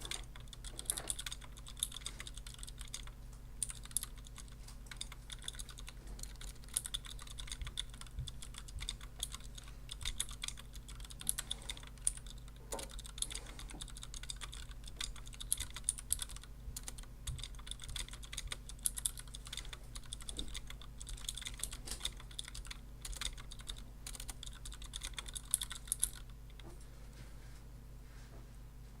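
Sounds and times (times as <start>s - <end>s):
fast typing on clicky keyboard: 0.0s - 26.6s.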